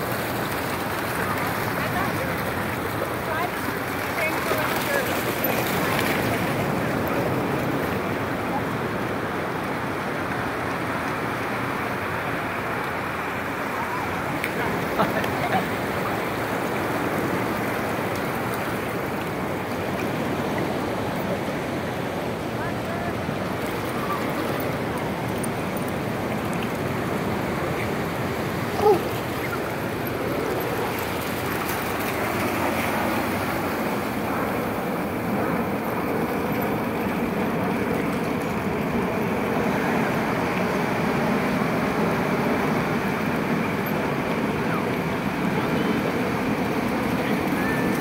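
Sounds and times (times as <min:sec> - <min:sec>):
ocean surf on sandy beach: 0:00.0 - 0:48.0.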